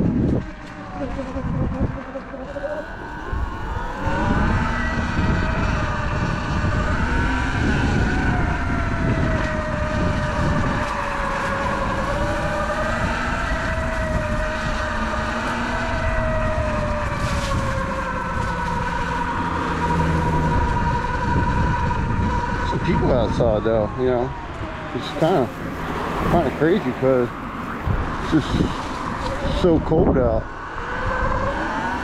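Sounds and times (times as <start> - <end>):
electric motorbike motor whining: 0.0 - 32.0
wind rumble on microphone: 0.0 - 32.0.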